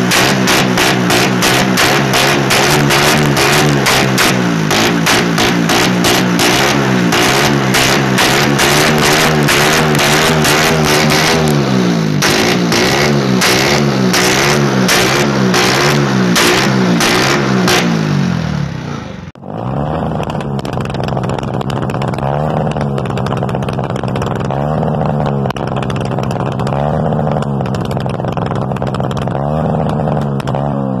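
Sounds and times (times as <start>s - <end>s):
engine revving up: 0.0s - 21.4s, 26.6s - 31.0s
motorcycle revving with cracks: 0.0s - 31.0s.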